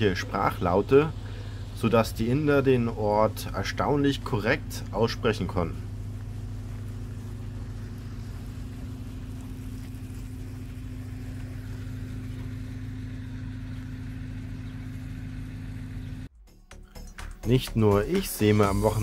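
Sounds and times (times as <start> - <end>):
boat engine droning: 0.0 - 16.3.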